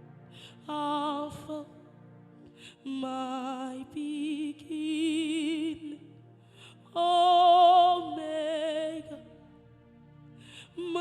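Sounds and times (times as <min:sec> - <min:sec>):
person singing slow worship song: 0:00.0 - 0:11.0
sustained instrumental backing: 0:00.0 - 0:11.0.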